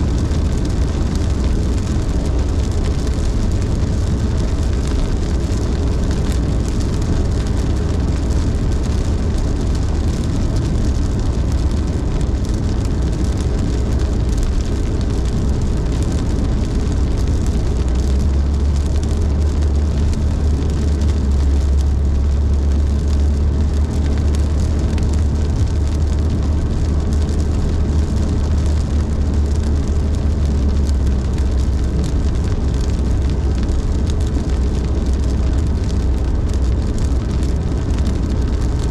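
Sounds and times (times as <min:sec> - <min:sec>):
hiss of rain and spray: 0:00.0 - 0:38.9
tyres and engine rumbling: 0:00.0 - 0:38.9.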